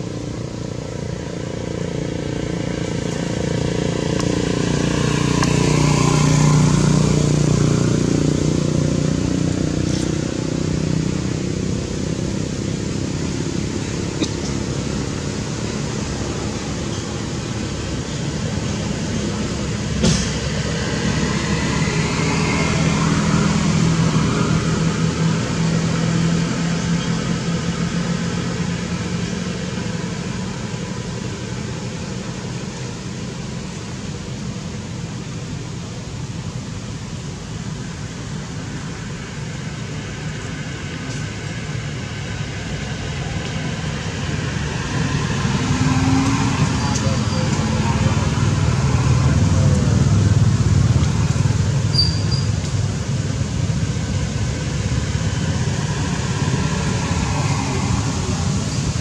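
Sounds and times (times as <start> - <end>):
vehicle engines passing: 0.0 - 59.0.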